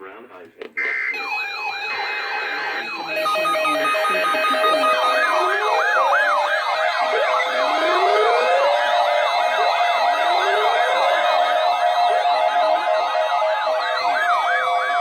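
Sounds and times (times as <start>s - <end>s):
fast yelp siren: 0.8s - 15.0s
steady held siren tones: 0.8s - 15.0s
wailing siren: 0.8s - 15.0s.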